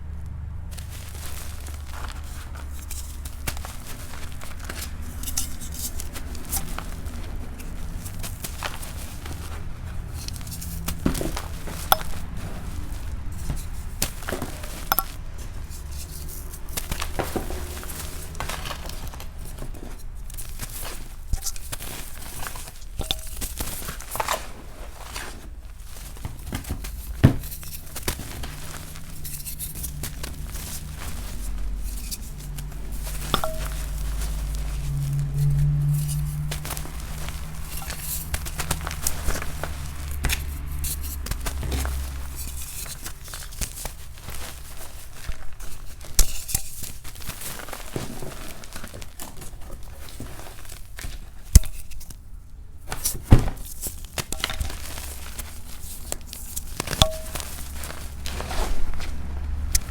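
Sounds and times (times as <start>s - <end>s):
chalk crumbling and snapping: 0.3s - 52.2s, 52.9s - 59.9s.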